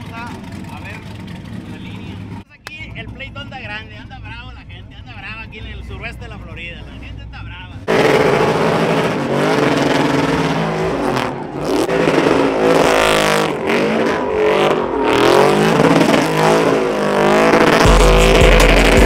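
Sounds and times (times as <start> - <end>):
pickup truck engine revving: 0.0 - 19.0
tires spinning: 0.0 - 19.0.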